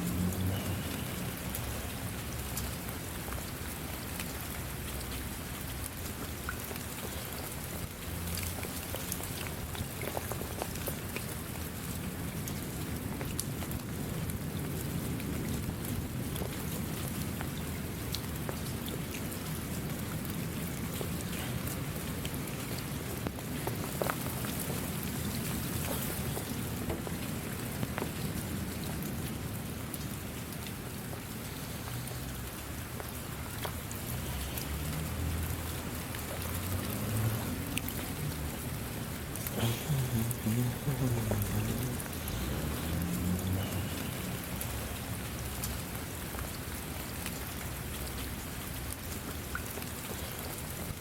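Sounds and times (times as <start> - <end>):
raindrops tapping: 0.0 - 51.0.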